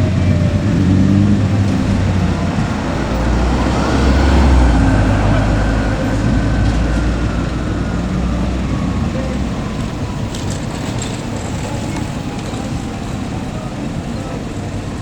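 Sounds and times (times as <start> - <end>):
faint siren wail: 0.0 - 15.0
vehicle engine and road noise: 0.0 - 15.0.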